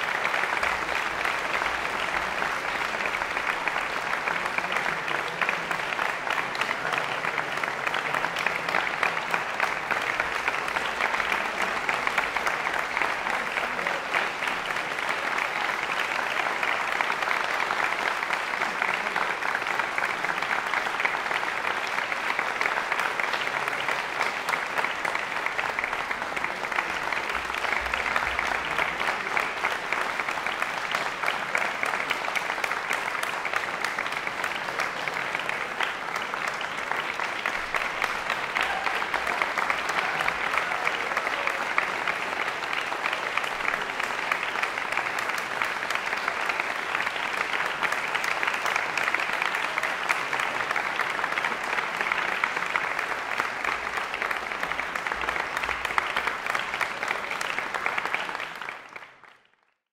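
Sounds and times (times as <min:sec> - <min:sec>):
audience applauding: 0:00.0 - 0:59.9.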